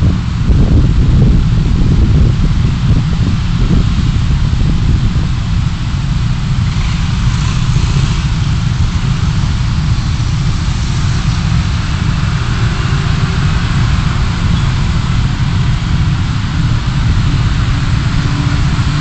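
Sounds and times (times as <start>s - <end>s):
car engine and road rumble: 0.0s - 19.0s
hiss: 2.8s - 19.0s.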